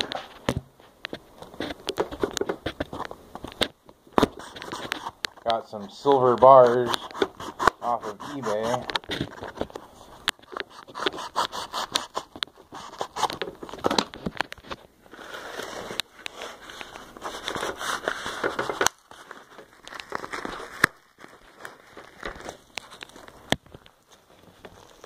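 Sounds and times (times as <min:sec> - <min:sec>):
packaging crinkling and tearing: 0:01.1 - 0:25.0.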